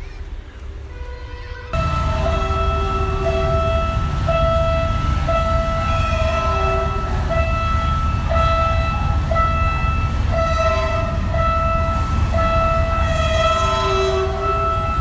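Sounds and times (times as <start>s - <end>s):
passing train rumble: 0.0s - 15.0s
train horn blasts: 0.8s - 15.0s.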